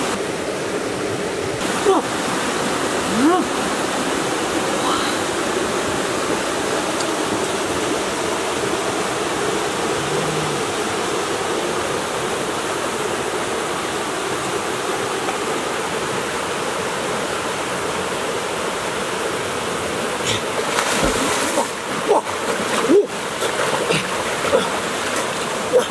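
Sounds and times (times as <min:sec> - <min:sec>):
waterfall rushing over rocks: 0:00.0 - 0:25.9.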